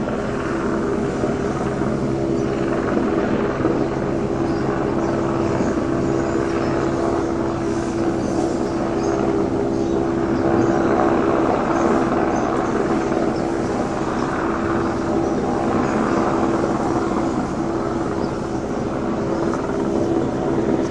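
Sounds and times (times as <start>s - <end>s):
helicopter hovering: 0.0s - 20.9s.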